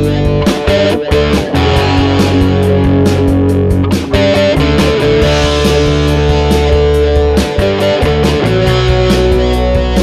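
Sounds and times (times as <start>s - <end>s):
background music with guitar: 0.0s - 10.0s.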